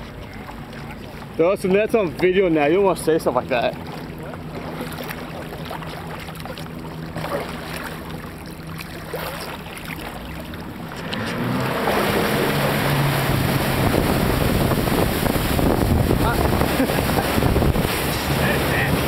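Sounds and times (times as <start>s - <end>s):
boat engine humming: 0.0s - 19.0s
rushing water: 0.0s - 19.0s
wind: 0.0s - 19.0s.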